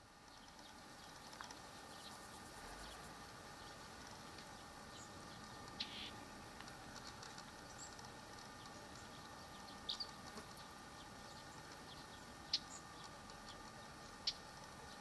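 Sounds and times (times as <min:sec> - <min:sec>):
faint steady hum: 0:00.0 - 0:15.0
small birds chirping: 0:00.0 - 0:15.0.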